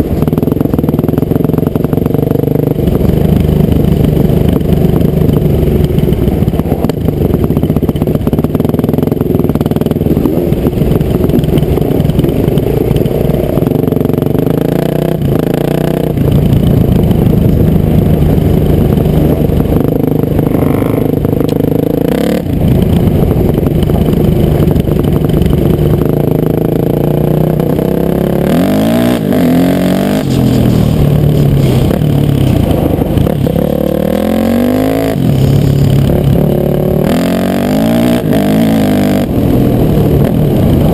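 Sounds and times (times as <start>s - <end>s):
motocross engine revving: 6.8s - 40.9s.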